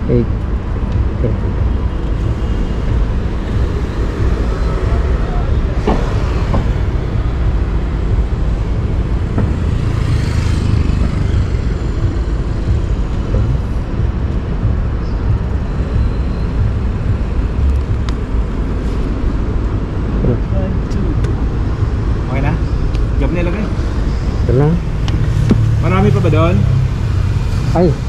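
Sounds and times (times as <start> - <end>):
road vehicles rumbling: 0.0 - 28.0.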